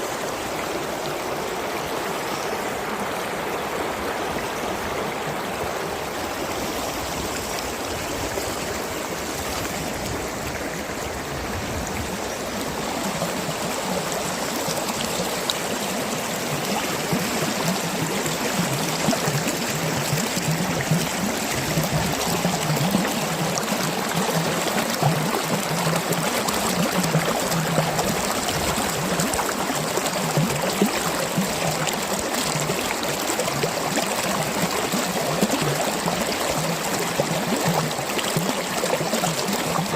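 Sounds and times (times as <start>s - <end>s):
mountain stream gurgling: 0.0s - 39.9s.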